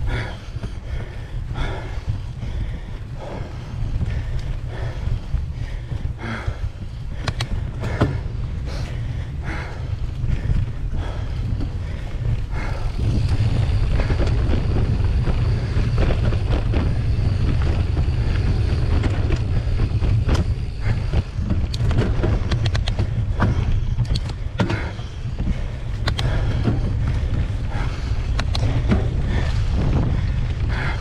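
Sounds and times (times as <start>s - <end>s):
bike clicks and rattles: 0.0s - 31.0s
bike tyres rumbling on dirt: 0.0s - 31.0s.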